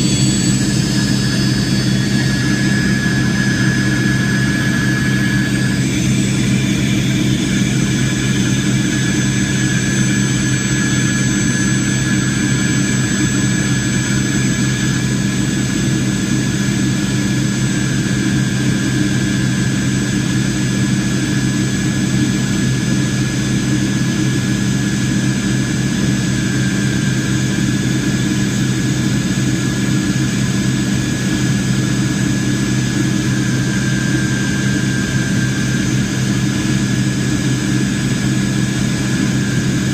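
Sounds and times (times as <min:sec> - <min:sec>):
aircraft engines humming in cabin: 0:00.0 - 0:39.9.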